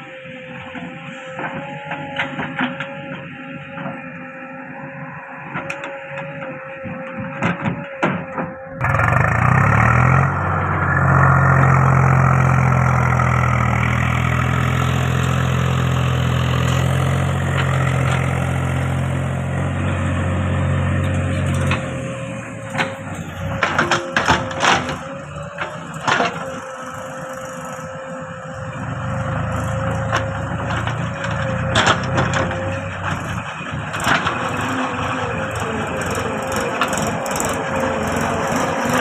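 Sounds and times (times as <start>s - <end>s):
heavy machinery diesel engine: 0.0s - 39.0s.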